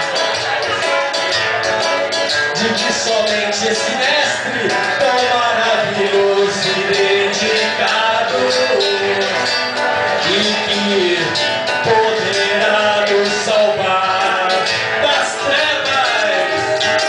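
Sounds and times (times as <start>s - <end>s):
electric guitar: 0.0s - 17.0s
steady beat: 0.0s - 17.0s
strummed acoustic guitar: 0.0s - 17.0s
man singing: 0.2s - 17.0s.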